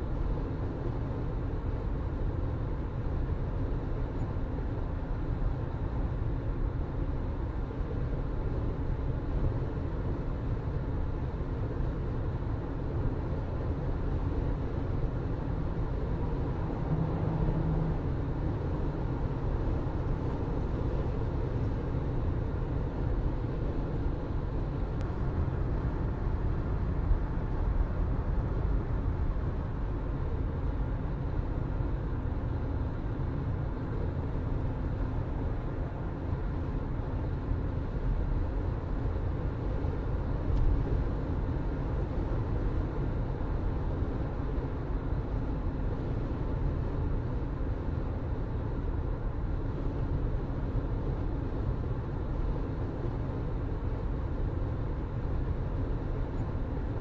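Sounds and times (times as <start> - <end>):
low engine hum: 0.0 - 57.0.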